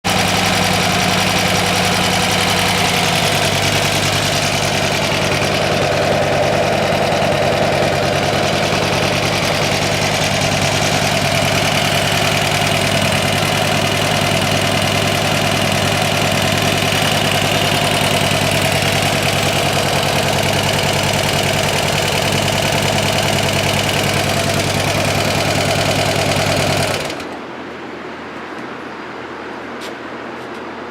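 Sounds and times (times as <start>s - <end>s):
motorcycle engine idling: 0.0s - 27.5s.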